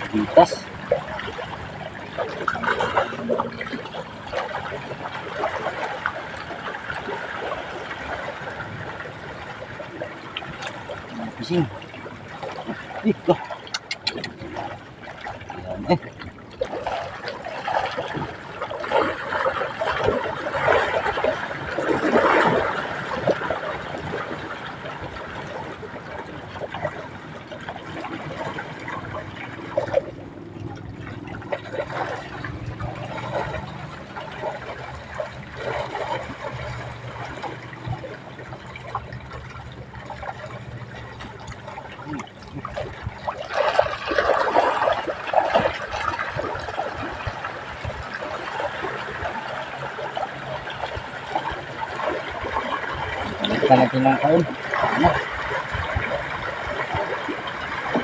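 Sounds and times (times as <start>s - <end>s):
water splashing and trickling: 0.0s - 58.0s.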